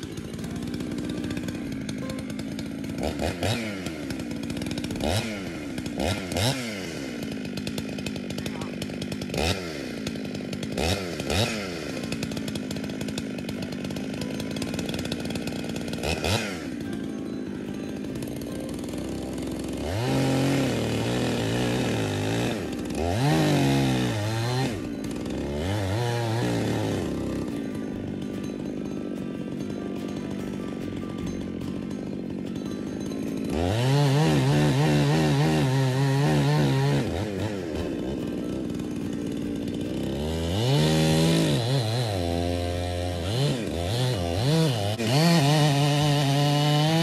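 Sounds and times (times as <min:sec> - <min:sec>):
chainsaw cutting into wood: 0:00.0 - 0:47.0
chainsaw idling and revving: 0:00.0 - 0:47.0.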